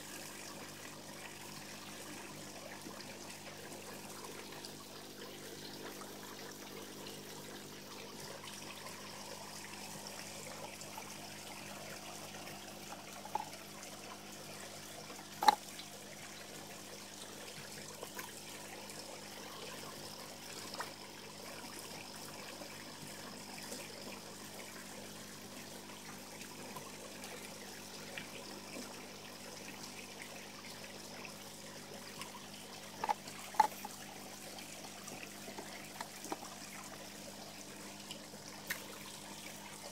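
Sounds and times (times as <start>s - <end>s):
faint steady hum: 0.0s - 39.9s
water trickling into pond: 0.0s - 39.9s.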